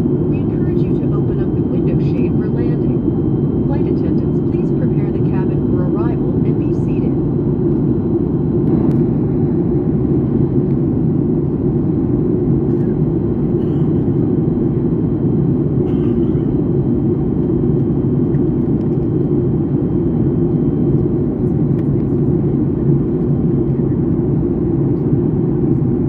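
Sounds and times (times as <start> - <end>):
jet engine and airflow roar: 0.0 - 26.0.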